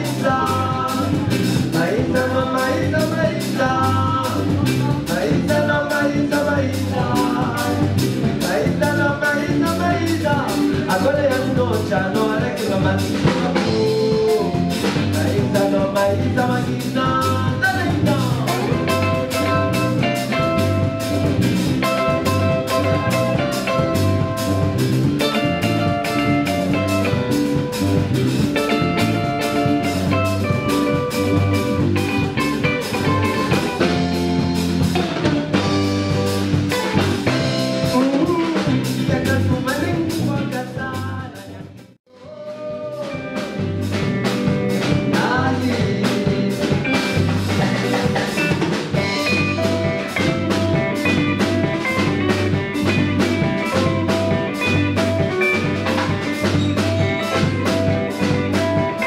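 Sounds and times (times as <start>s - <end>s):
live band playing: 0.0s - 59.0s.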